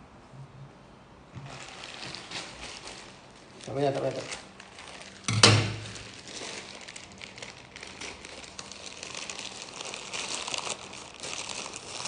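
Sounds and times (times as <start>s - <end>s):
plastic packaging crinkling: 1.4s - 12.0s.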